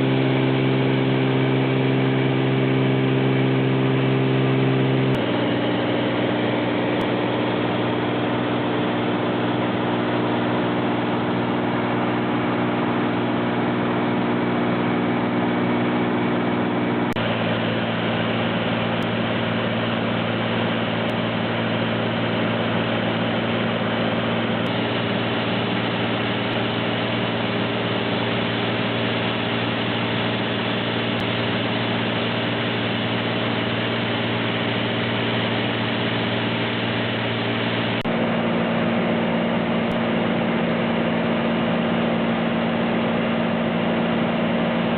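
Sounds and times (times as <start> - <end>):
light aircraft engine droning: 0.0 - 44.9.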